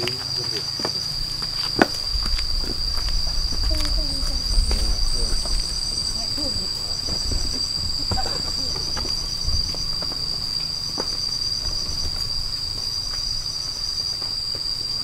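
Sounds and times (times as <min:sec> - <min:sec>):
cicadas whining: 0:00.0 - 0:15.0
pulsing cicada trill: 0:00.0 - 0:15.0.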